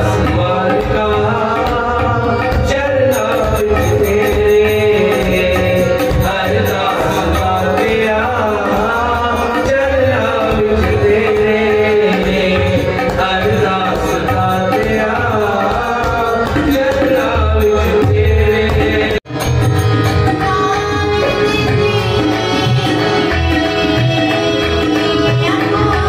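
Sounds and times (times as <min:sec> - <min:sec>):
harmonium: 0:00.0 - 0:26.0
tabla played by hand: 0:00.0 - 0:26.0.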